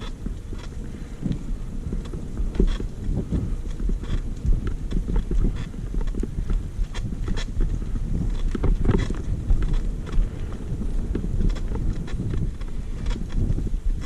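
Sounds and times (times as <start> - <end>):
bike knocks and rattles: 0.0 - 14.0.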